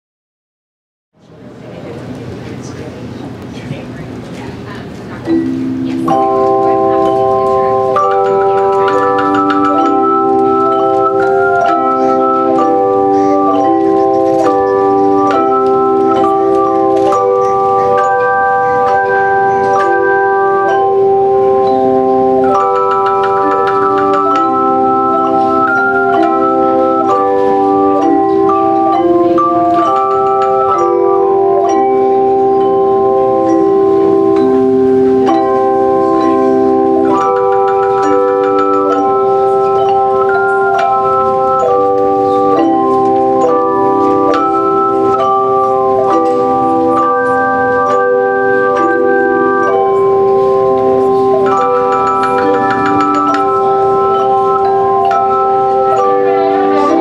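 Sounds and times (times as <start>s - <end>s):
hand bells ringing slow piece: 5.3s - 57.0s.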